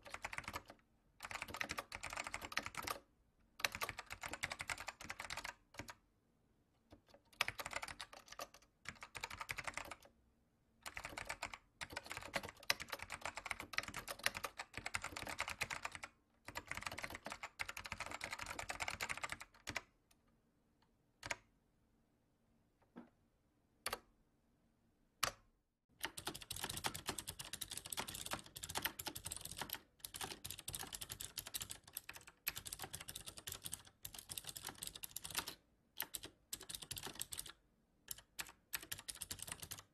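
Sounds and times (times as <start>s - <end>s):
typing on computer keyboard: 0.0s - 6.0s, 6.9s - 10.1s, 10.8s - 20.0s, 26.0s - 39.9s.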